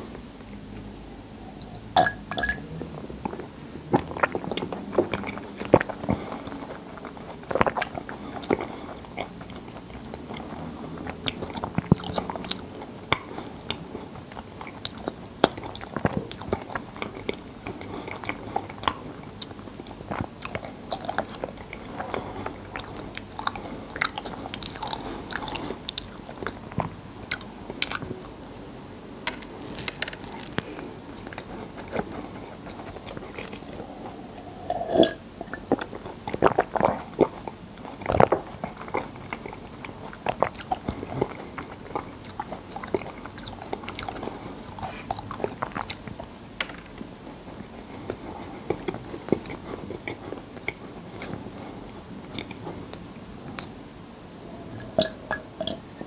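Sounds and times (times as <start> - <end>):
person chewing bread: 2.6 - 28.4, 29.2 - 53.8.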